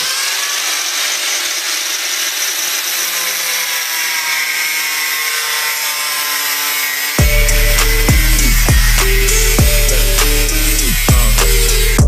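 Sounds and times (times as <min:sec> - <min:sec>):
power tool running with whine: 0:00.0 - 0:12.0.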